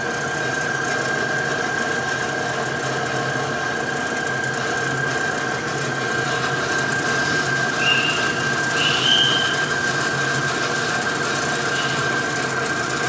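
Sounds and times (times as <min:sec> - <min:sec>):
power tool whining on metal: 0:00.5 - 0:13.0.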